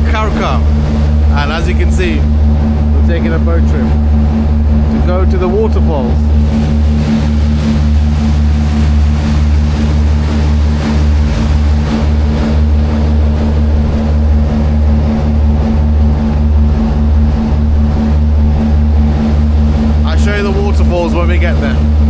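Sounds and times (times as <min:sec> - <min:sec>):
boat engine droning: 0:00.0 - 0:22.0
water rushing along hull: 0:00.0 - 0:22.0.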